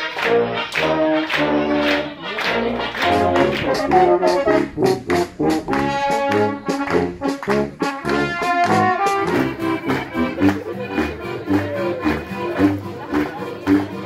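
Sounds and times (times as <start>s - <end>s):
brass band playing oompah: 0.0s - 14.0s.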